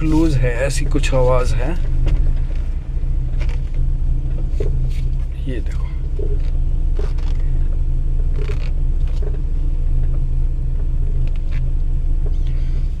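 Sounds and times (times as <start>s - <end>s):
loose rattle: 0.0s - 12.6s
suspension knocks: 0.0s - 12.6s
car engine and road rumble: 0.0s - 13.0s.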